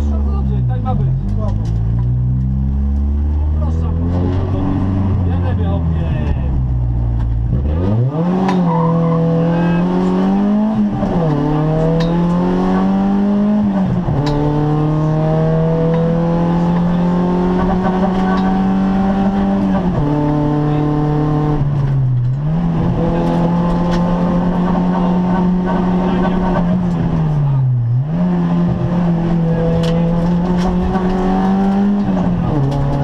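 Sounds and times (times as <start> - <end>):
rally car engine accelerating: 0.0 - 33.0.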